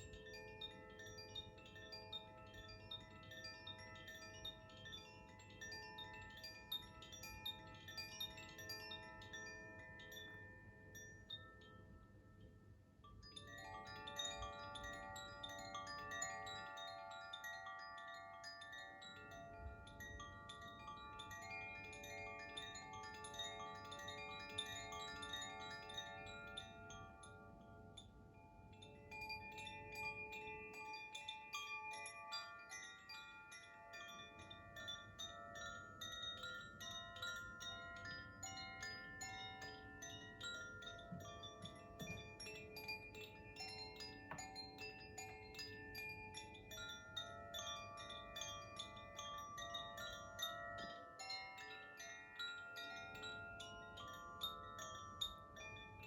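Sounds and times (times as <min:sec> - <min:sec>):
wind chimes chiming: 0:00.0 - 0:56.0.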